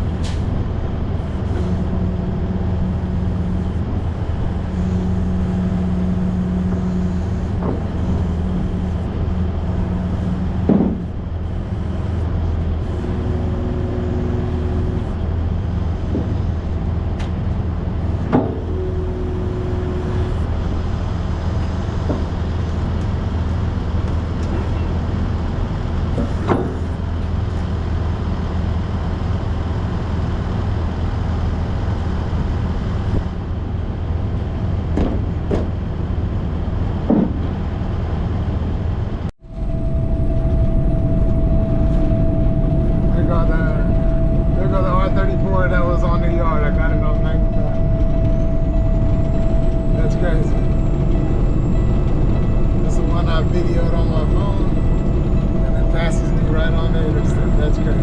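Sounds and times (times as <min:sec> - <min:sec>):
truck engine droning: 0:00.0 - 0:58.0.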